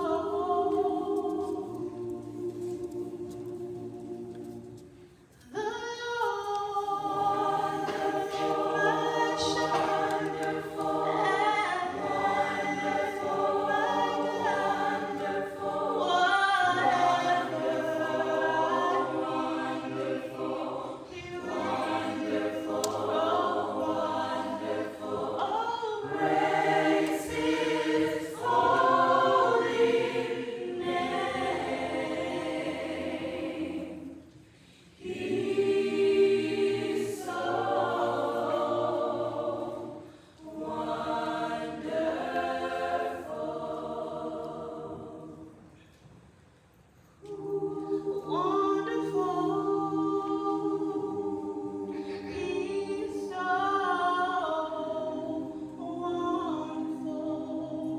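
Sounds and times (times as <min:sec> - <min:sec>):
gospel choir singing: 0:00.0 - 0:57.9.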